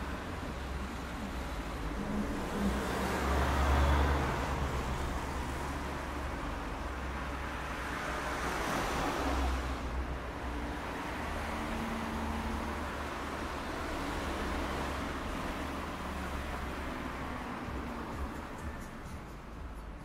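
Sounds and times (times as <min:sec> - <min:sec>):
city street traffic: 0:00.0 - 0:20.0
vehicles passing close: 0:00.0 - 0:20.0.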